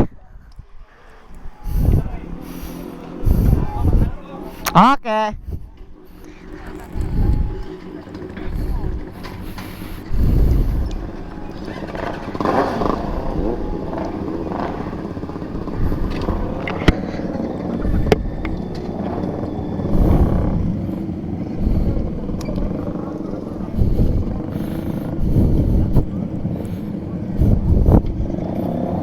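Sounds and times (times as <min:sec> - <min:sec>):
motorcycle engines running: 0:00.9 - 0:04.8, 0:05.4 - 0:29.0.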